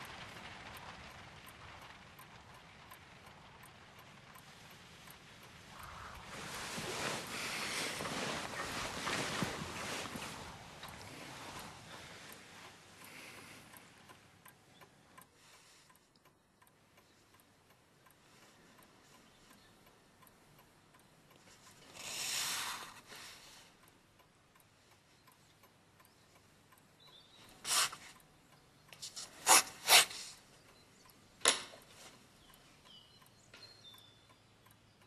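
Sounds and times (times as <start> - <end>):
clock ticking: 0.0 - 6.3, 10.2 - 35.0.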